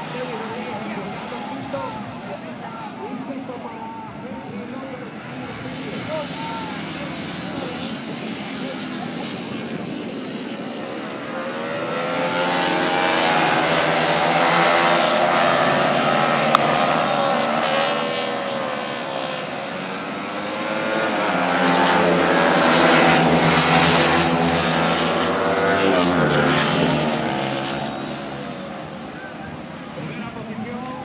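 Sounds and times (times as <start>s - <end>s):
racing motorcycles passing: 0.0s - 31.0s.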